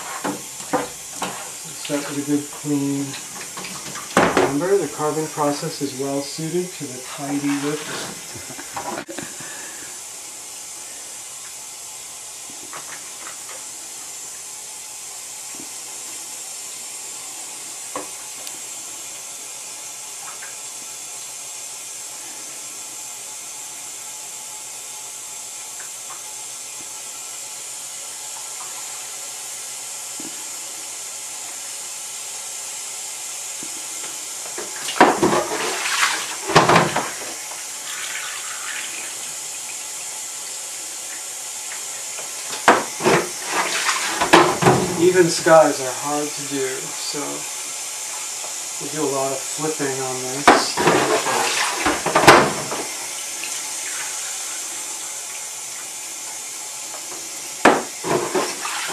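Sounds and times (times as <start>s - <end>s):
water running from a hose: 0.0s - 58.9s.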